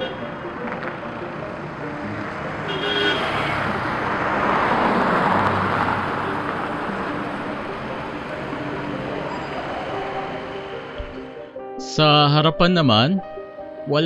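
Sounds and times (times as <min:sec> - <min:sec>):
pickup truck driving past: 0:00.0 - 0:11.4.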